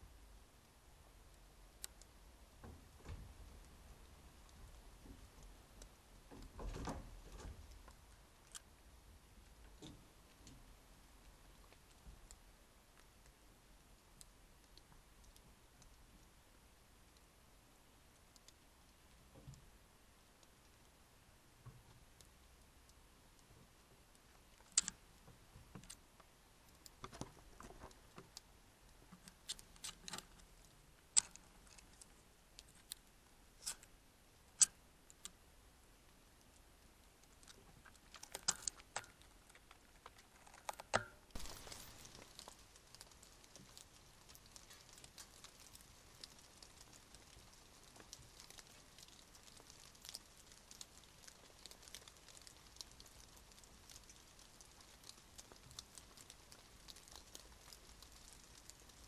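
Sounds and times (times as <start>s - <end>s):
light rain pattering: 0.0s - 59.0s
raindrops dripping: 0.0s - 59.0s.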